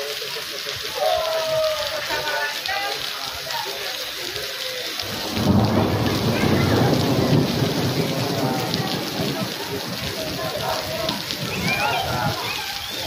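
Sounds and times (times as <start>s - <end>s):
heavy rain on pavement: 0.0s - 13.0s.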